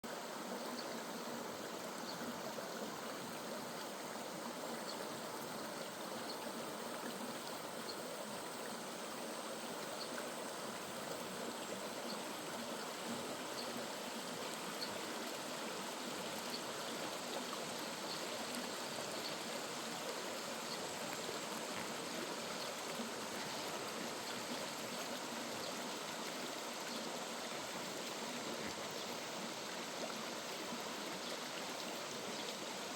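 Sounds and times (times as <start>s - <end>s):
stream flowing over rocks: 0.0s - 32.9s.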